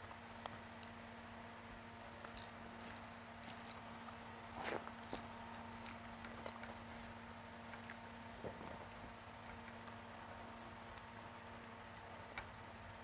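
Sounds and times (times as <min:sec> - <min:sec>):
faint steady hum: 0:00.0 - 0:13.0
chewing rice: 0:00.4 - 0:01.0, 0:01.7 - 0:12.6
fingers squishing rice: 0:01.6 - 0:13.0.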